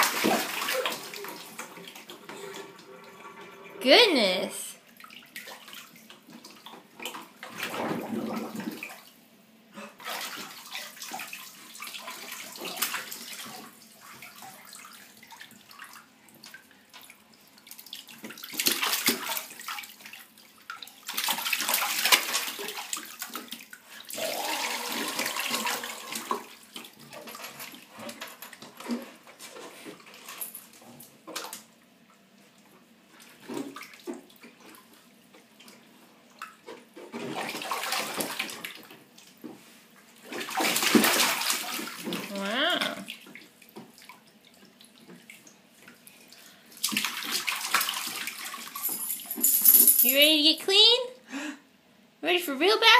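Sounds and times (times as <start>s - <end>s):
bath water sloshing and splashing: 0.0s - 3.9s, 4.8s - 48.9s.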